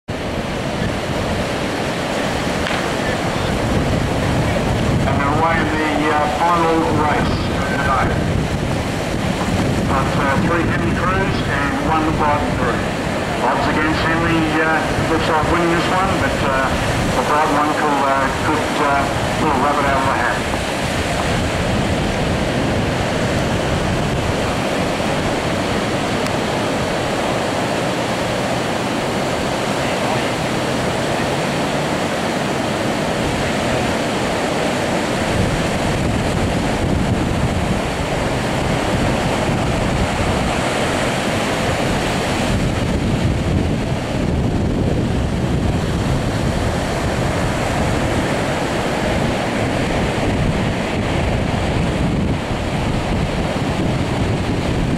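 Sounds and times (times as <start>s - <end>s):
ocean surf breaking: 0.1s - 54.9s
wind on microphone: 0.1s - 54.9s.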